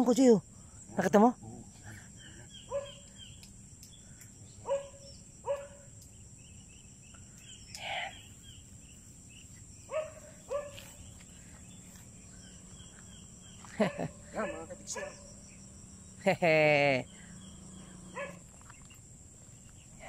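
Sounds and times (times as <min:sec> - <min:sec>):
high-pitched insect buzz: 0:00.0 - 0:20.0.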